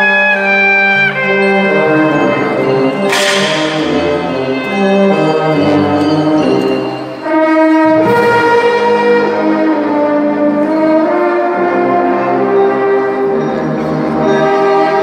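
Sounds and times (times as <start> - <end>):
brass band playing chords: 0.0 - 15.0.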